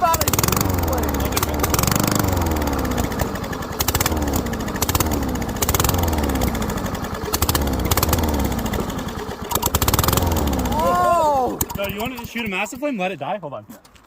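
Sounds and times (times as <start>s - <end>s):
lawn mower engine running hard: 0.0s - 12.5s
exhaust popping: 0.0s - 13.0s.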